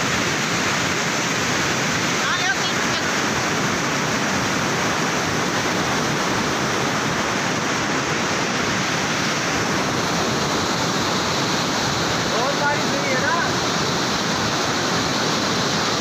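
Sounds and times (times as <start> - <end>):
floodwater rushing through drain: 0.0 - 16.0.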